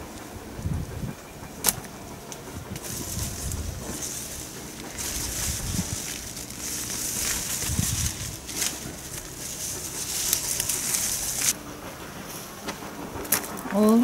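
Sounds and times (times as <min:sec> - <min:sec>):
leafy plants rustling: 0:00.0 - 0:11.6.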